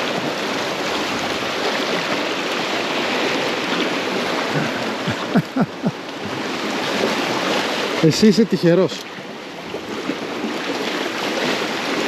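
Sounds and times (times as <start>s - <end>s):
sea water washing against rocks: 0.0s - 12.0s.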